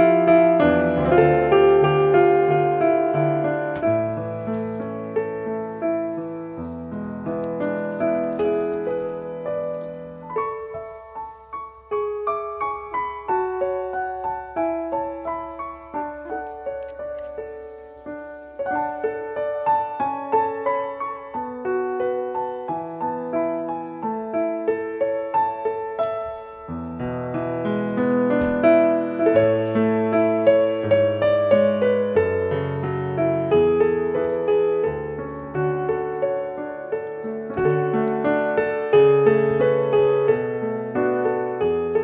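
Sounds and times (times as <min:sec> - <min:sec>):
gentle piano melody: 0:00.0 - 0:42.0.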